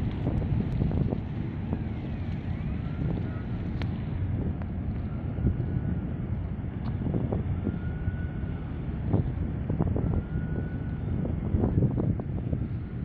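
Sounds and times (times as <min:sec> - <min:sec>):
wind buffeting microphone: 0:00.0 - 0:13.0
faint high whine: 0:01.0 - 0:11.8.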